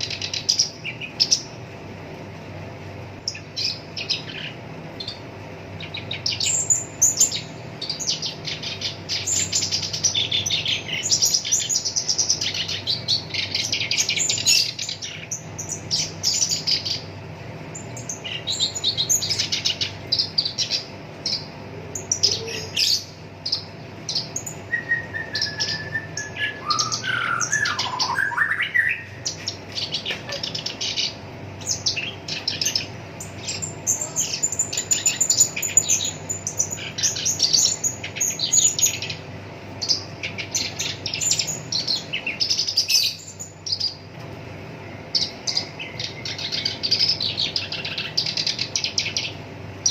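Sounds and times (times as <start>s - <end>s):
warbler chattering song: 0.0s - 49.9s.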